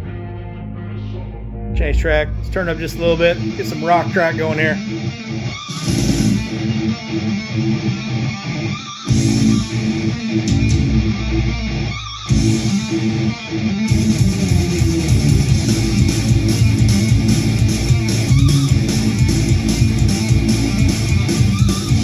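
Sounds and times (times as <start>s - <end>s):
rock music over speakers: 0.0s - 22.0s.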